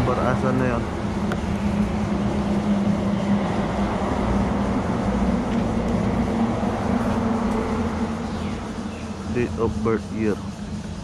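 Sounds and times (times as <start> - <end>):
machine droning: 0.0 - 11.0.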